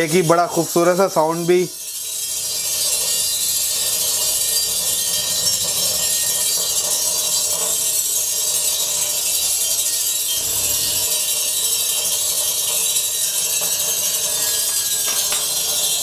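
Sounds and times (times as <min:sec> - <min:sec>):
water beads sizzling on hot plate: 0:00.0 - 0:16.0.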